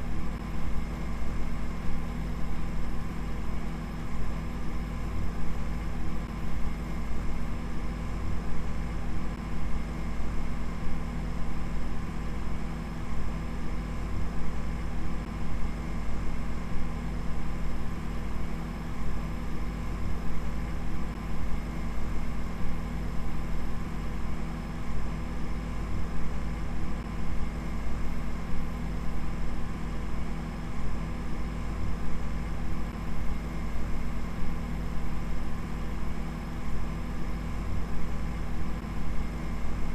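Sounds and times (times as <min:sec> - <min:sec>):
low fluttering machine hum: 0:00.0 - 0:39.9.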